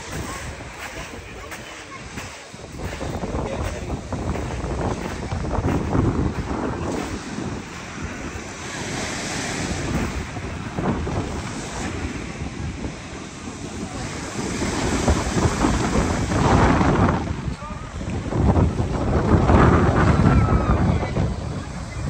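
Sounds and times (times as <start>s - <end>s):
sea waves washing onto beach: 0.0s - 22.0s
wind buffeting microphone: 0.0s - 22.0s.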